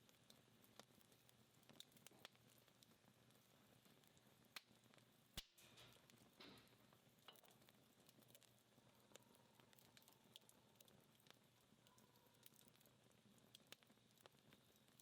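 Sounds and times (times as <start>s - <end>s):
quiet hiss of embers: 0.0s - 15.0s
wood fire crackling and popping: 0.0s - 15.0s.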